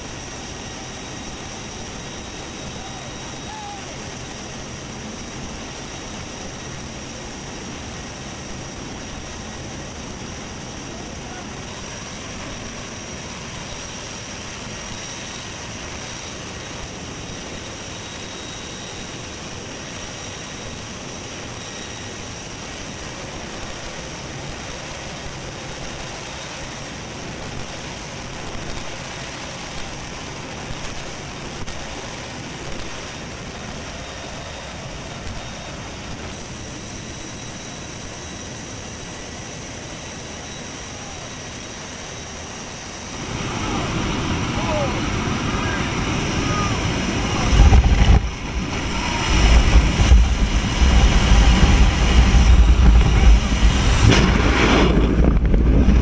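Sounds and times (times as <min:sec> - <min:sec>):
airplane engine drone: 0:00.0 - 0:56.0
faint high engine whine: 0:00.0 - 0:56.0.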